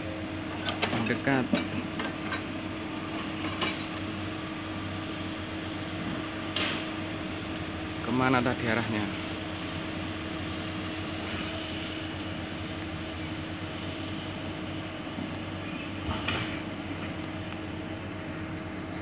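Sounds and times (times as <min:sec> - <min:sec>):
distant excavator diesel engine: 0:00.0 - 0:19.0.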